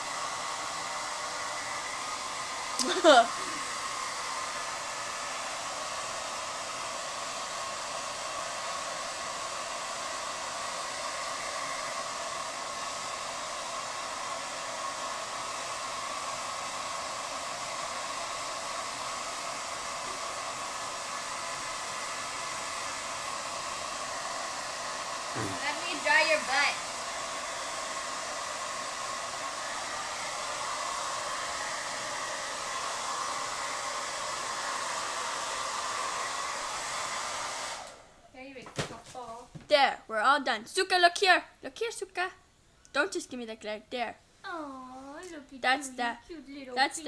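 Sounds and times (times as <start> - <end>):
hair dryer blowing: 0.0 - 38.2.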